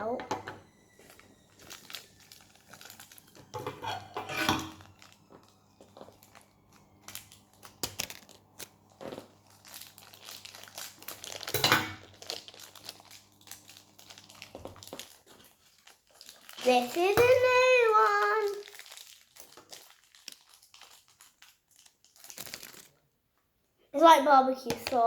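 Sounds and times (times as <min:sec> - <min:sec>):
plastic packaging crinkling and tearing: 0:00.0 - 0:23.2.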